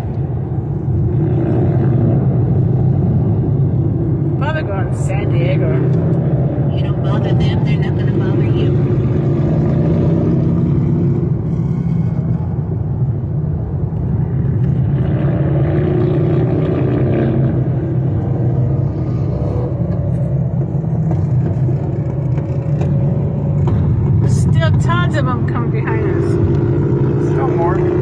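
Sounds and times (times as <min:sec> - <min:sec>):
freeway road noise from car: 0:00.0 - 0:28.0
motorcycles riding: 0:00.0 - 0:28.0.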